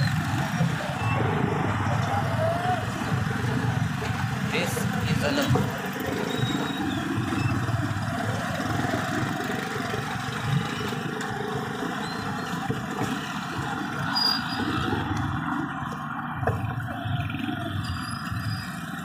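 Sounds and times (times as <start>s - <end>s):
street traffic noise: 0.0s - 19.0s
vehicle engine running: 0.0s - 19.0s.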